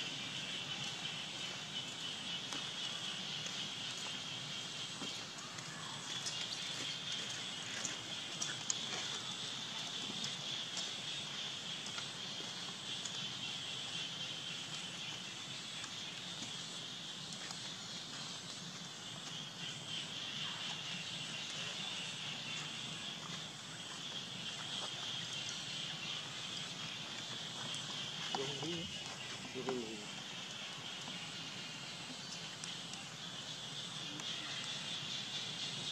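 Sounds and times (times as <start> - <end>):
high-pitched insect drone: 0.0 - 35.9.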